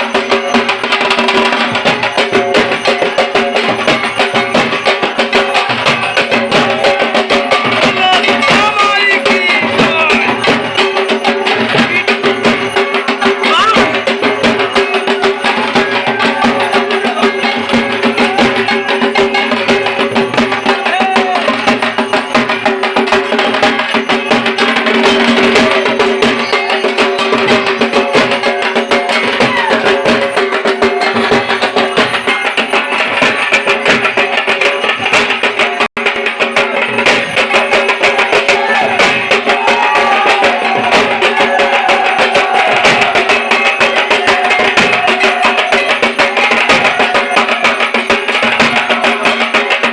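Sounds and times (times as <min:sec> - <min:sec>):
fast drumming with sticks: 0:00.0 - 0:49.9.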